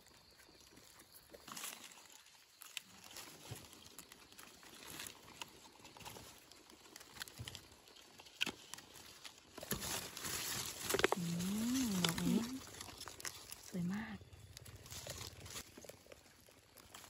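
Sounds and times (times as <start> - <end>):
rustling of dry leaves: 0.0 - 17.0.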